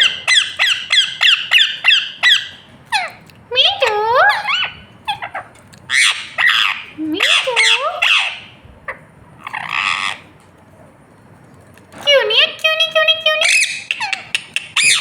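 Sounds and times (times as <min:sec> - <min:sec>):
parrot squawking: 0:00.0 - 0:10.3, 0:12.0 - 0:15.0.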